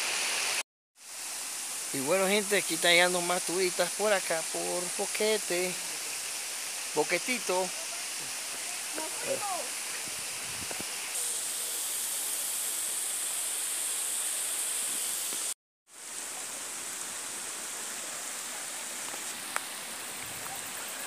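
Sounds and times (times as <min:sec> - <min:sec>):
waterfall and stream rushing: 0:00.0 - 0:21.0.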